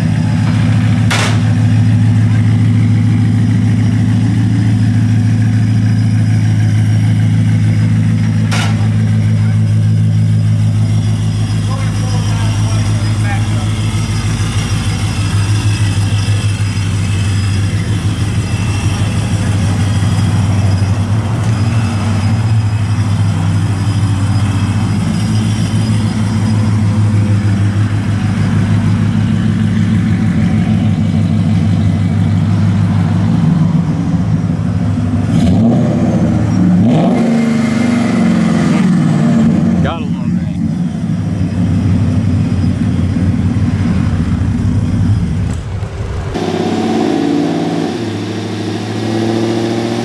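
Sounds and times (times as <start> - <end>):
truck engine rumbling: 0.0 - 50.0.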